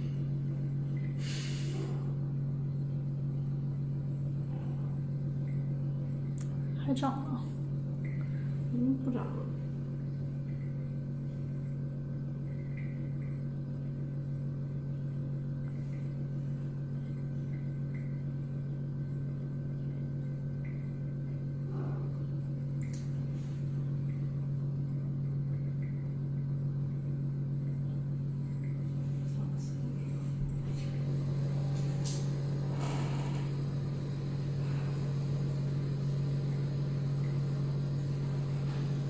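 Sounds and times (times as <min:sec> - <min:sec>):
low machine hum: 0:00.0 - 0:39.0.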